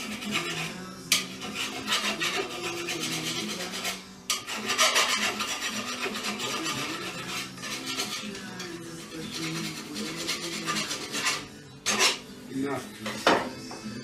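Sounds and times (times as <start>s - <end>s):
scrubbing rust off metal: 0.0s - 12.3s.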